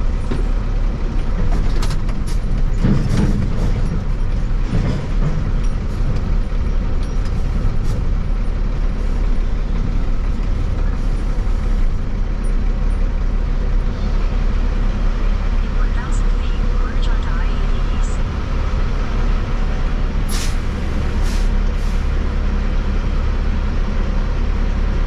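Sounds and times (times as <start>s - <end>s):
vehicle rumble: 0.0s - 25.0s.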